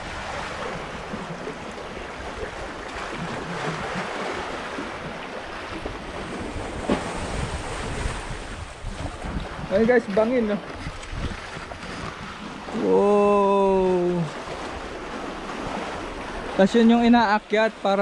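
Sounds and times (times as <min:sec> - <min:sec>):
wind buffeting microphone: 0:00.0 - 0:17.1.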